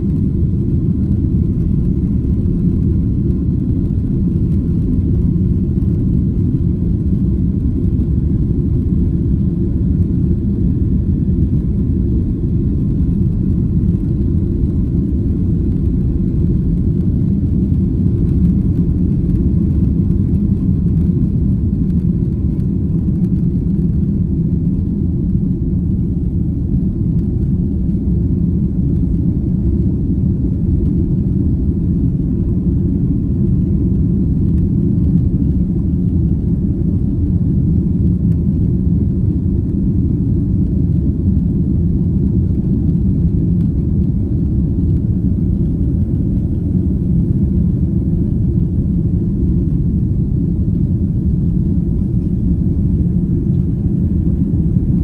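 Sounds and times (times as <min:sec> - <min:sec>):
airplane cabin drone: 0:00.0 - 0:55.0.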